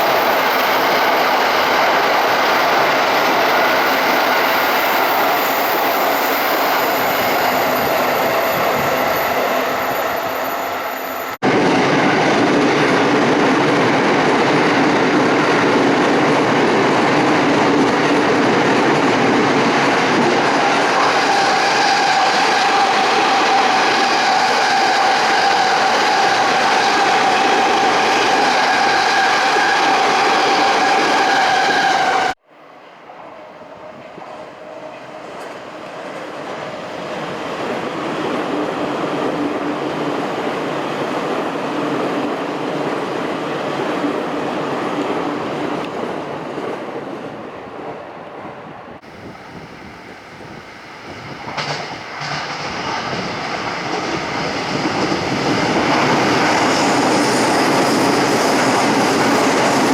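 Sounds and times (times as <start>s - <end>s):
electric train whine: 0.0s - 39.6s, 48.7s - 59.9s
train rumble: 0.0s - 59.9s.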